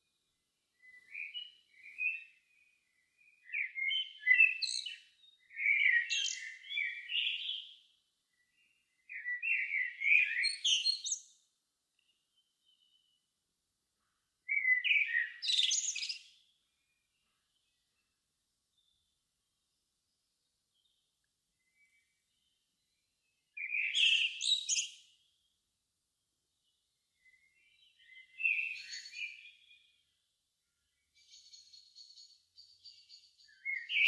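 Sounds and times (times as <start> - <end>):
songbird chirping: 0.0 - 34.0.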